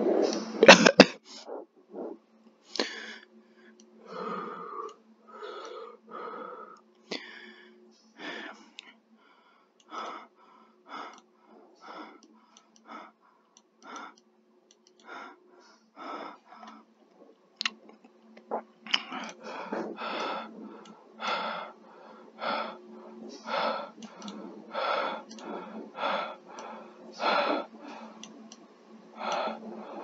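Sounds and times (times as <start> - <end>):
person breathing heavily and wheezily: 0.0 - 14.2, 14.9 - 30.0.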